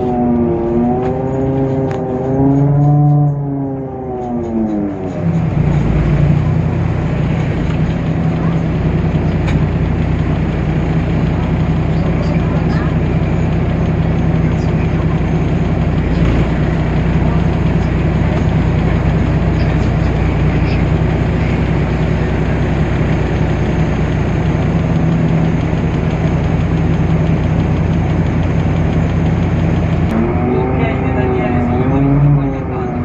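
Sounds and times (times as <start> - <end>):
diesel bus engine humming: 0.0 - 33.0.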